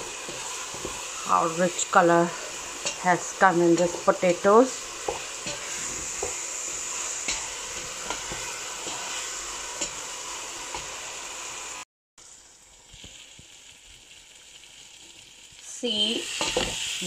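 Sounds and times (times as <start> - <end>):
potatoes sizzling in oil: 0.0 - 17.0.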